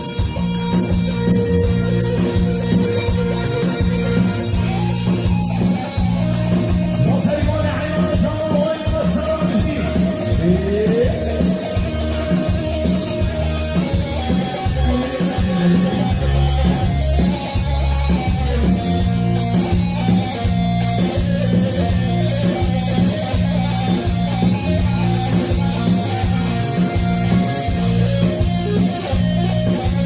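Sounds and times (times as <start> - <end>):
amplified plucked-string melody: 0.0 - 30.0
bass and drum beat: 0.0 - 30.0.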